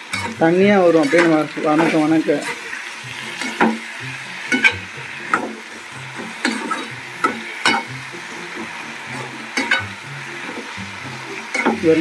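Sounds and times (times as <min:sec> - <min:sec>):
frying sizzle: 0:00.0 - 0:12.0
metal spatula scraping pan: 0:00.0 - 0:12.0.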